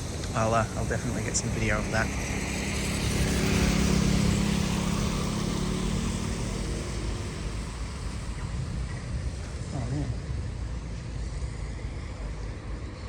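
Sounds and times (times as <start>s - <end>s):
motor vehicle passing: 0.0s - 11.6s.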